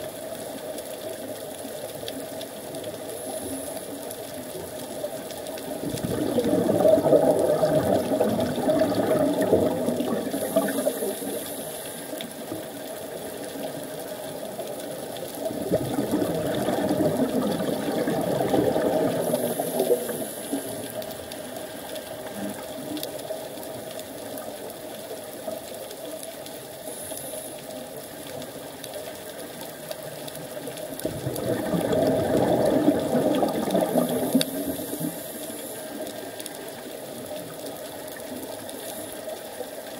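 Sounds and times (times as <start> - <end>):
exhaled bubbles rumbling underwater: 0.0 - 39.9.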